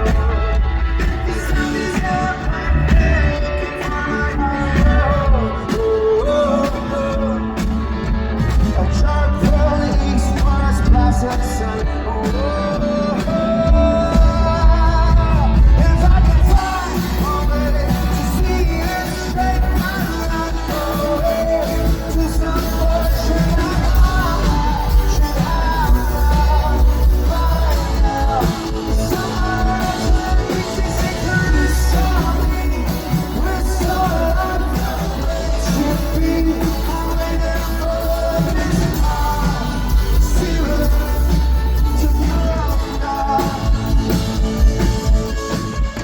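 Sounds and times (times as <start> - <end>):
heavy bass: 0.0 - 46.0
man singing: 0.0 - 46.0
rock band playing live: 0.0 - 46.0.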